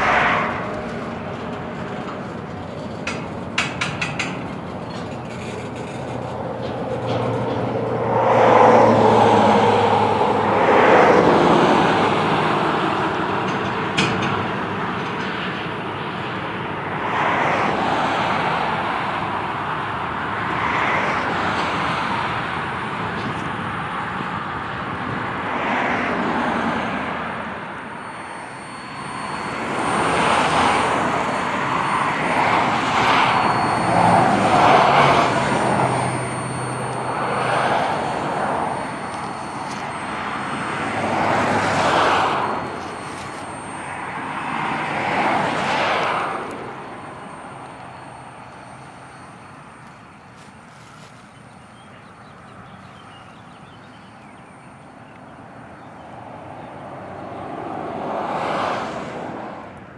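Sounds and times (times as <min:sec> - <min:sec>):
freight train wheels rumbling on rails: 0:00.0 - 0:53.7.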